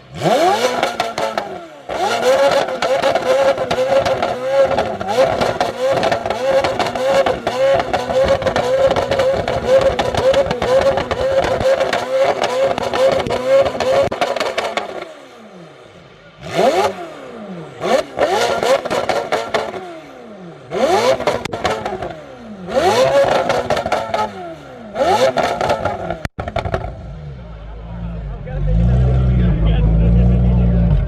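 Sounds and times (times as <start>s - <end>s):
sports car engine revving: 0.0s - 31.0s.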